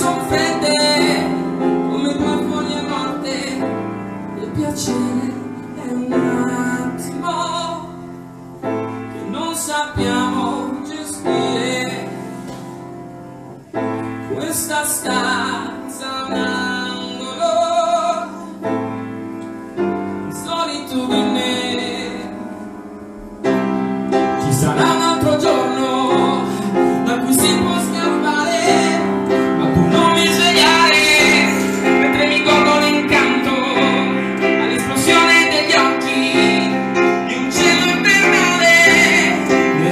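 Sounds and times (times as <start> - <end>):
person singing: 0.0 - 8.1, 9.1 - 12.7, 14.3 - 18.7, 20.1 - 22.8, 24.2 - 39.9
grand piano: 0.0 - 39.9.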